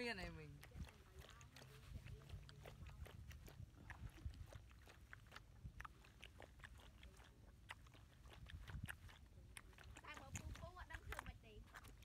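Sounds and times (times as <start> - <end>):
dog lapping from a bowl: 0.0 - 12.0.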